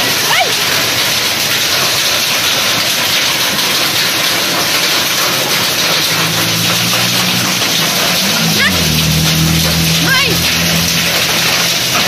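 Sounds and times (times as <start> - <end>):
heavy rain and hail on concrete: 0.0 - 12.0.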